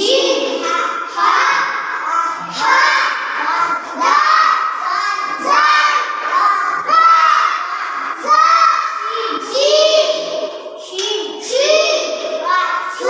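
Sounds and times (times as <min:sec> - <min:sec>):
children chanting in unison: 0:00.0 - 0:13.0.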